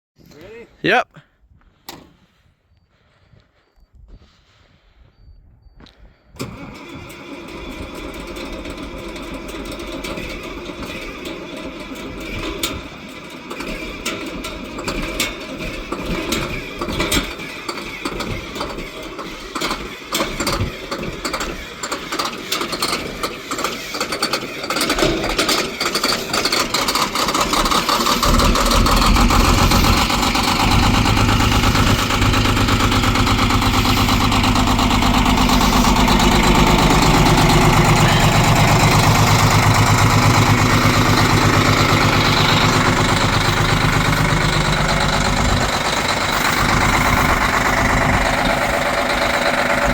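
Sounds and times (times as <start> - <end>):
diesel engine cranking on starter: 6.3 - 49.9
diesel engine running: 6.4 - 49.9.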